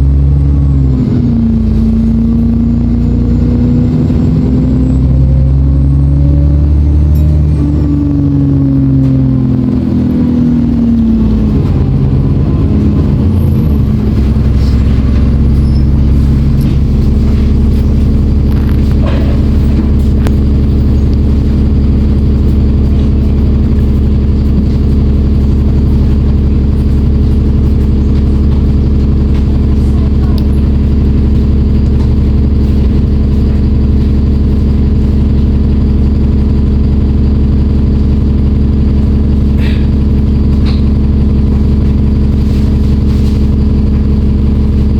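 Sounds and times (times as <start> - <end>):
bus diesel engine: 0.0 - 44.9.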